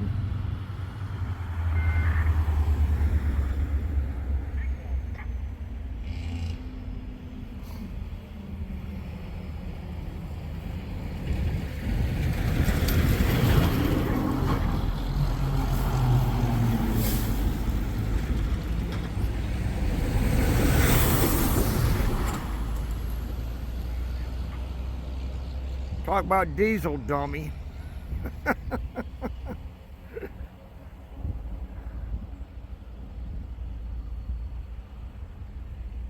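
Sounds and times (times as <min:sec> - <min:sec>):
heavy vehicle diesel engine: 0:00.0 - 0:35.6.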